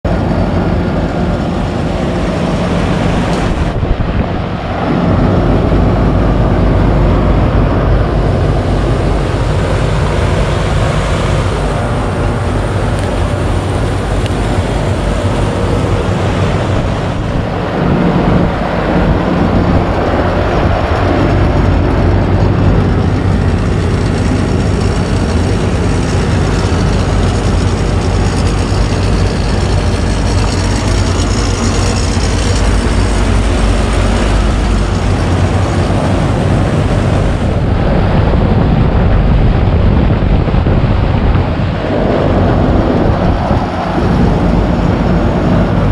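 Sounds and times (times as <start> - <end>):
heat pump hum and whoosh: 0.0 - 45.9.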